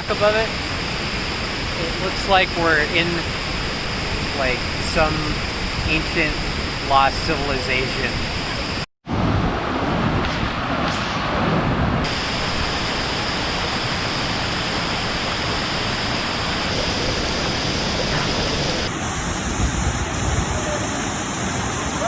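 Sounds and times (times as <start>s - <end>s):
waterfall rushing: 0.0s - 8.9s, 12.0s - 22.0s.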